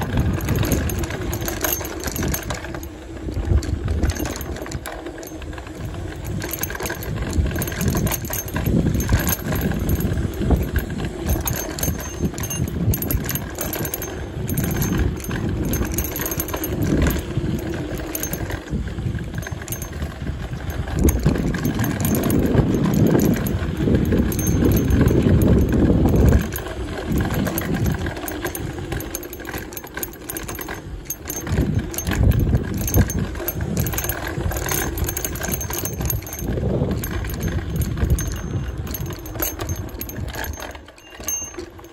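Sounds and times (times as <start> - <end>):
bike rattling over bumps: 0.0 - 41.9.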